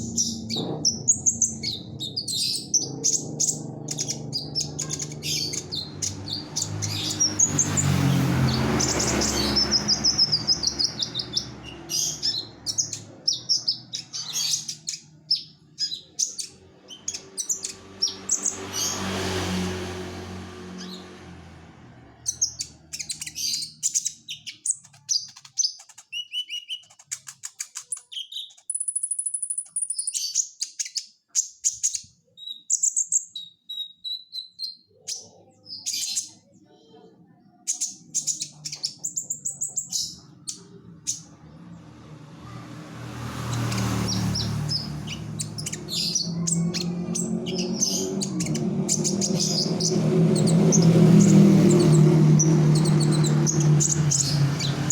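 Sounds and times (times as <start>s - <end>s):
songbird chirping and trilling: 0.0s - 54.9s.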